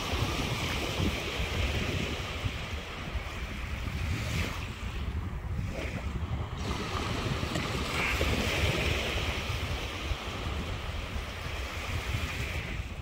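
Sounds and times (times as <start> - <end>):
small waves washing onto sand: 0.0 - 13.0
wind buffeting microphone: 0.0 - 13.0.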